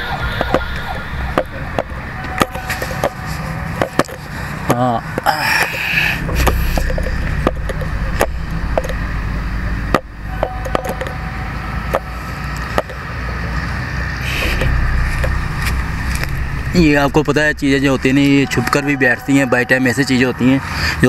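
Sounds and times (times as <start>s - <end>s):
steady low rumble: 0.0s - 20.9s.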